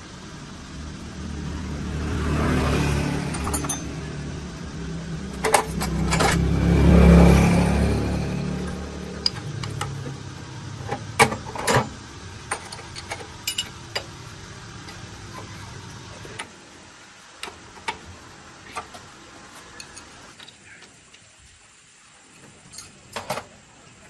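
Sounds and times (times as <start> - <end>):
low steady hum: 0.0 - 20.8.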